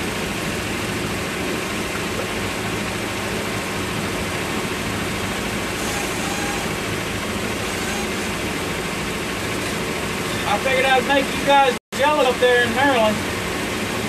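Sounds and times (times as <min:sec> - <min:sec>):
motorboat engine running: 0:00.0 - 0:14.0
rush of wind and water: 0:00.0 - 0:14.0.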